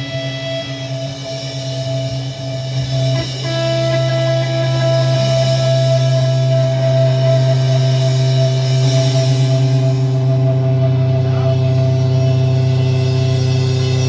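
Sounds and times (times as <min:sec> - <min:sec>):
droning guitar music: 0:00.0 - 0:14.0.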